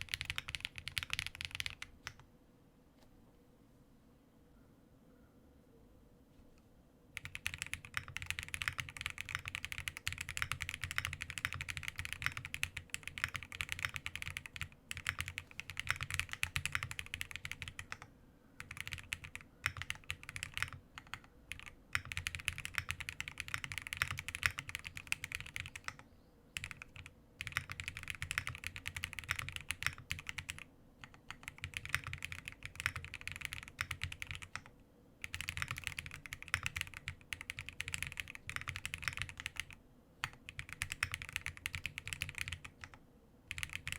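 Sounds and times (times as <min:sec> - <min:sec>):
fast typing on mechanical keyboard: 0:00.0 - 0:02.2, 0:07.2 - 0:26.0, 0:26.6 - 0:43.9.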